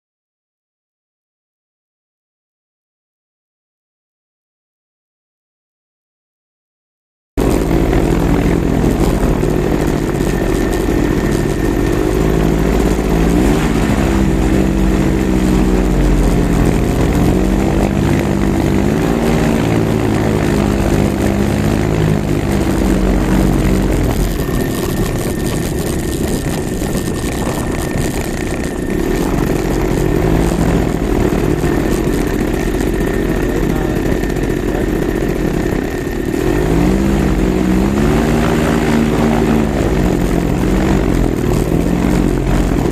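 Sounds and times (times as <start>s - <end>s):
two-stroke engine revving: 7.4s - 42.9s.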